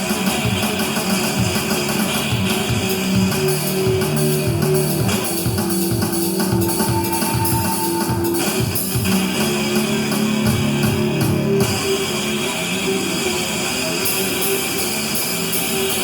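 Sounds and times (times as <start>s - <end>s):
music with held notes: 0.0s - 16.0s.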